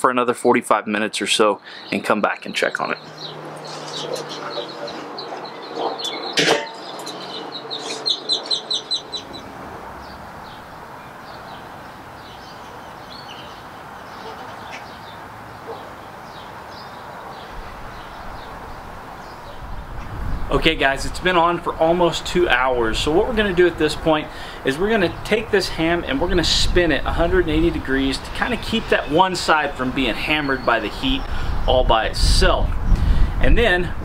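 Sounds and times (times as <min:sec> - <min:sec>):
birds chirping and trilling: 0:01.6 - 0:33.8.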